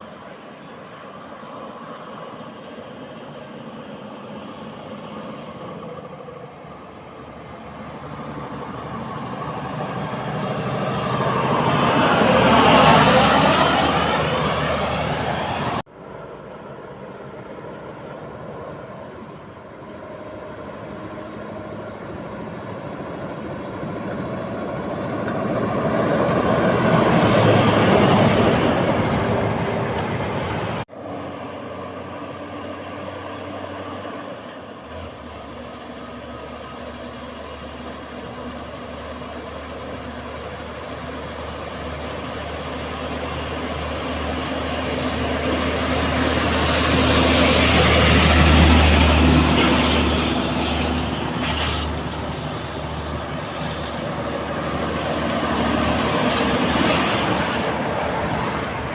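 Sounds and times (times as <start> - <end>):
heavy trucks passing: 0.0 - 58.9.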